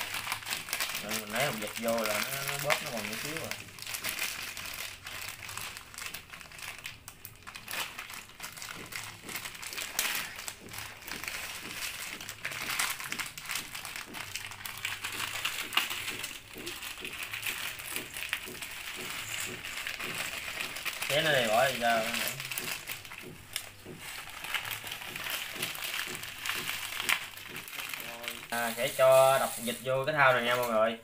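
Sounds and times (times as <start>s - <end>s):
plastic packets crinkling: 0.0s - 31.0s.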